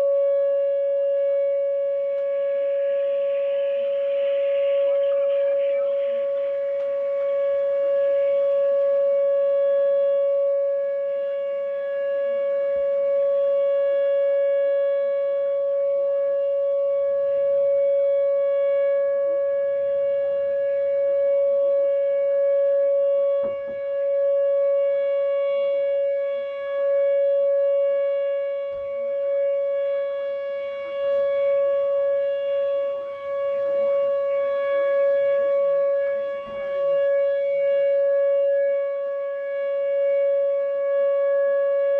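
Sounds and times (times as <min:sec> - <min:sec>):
tornado siren steady tone: 0:00.0 - 0:41.9.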